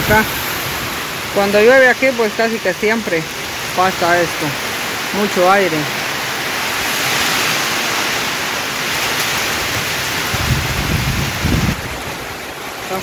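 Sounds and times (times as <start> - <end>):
wind gusts buffeting microphone: 0.0 - 5.2, 5.9 - 13.0
heavy rain pouring: 0.0 - 13.0.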